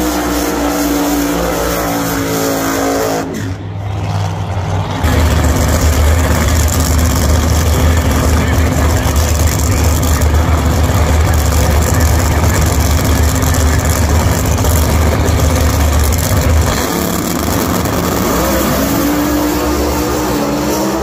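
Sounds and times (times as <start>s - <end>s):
drag car engines running loudly: 0.0s - 21.0s
rising engine tone: 0.0s - 21.0s.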